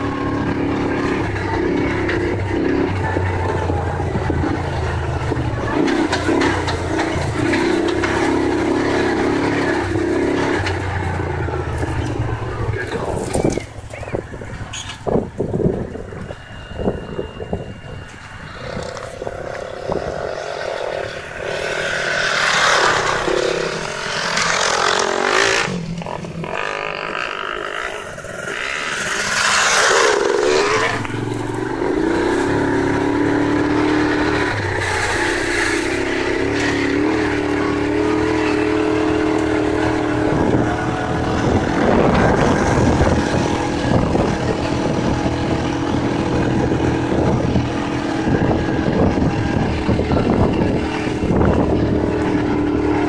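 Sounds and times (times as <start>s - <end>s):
engine droning: 0.0s - 53.0s
rushing noise: 0.0s - 53.0s.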